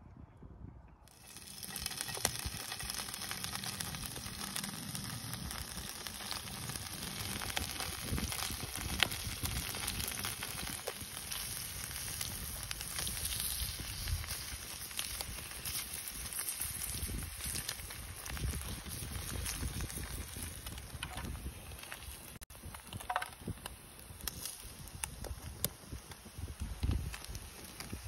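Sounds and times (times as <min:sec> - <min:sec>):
campfire crackling and hissing: 0:01.1 - 0:28.0
sharp pops of fire: 0:01.1 - 0:28.0.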